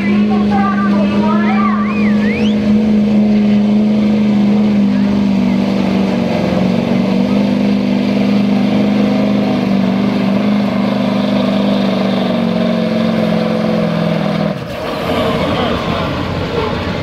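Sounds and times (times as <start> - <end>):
diesel engine droning under load: 0.0 - 17.0.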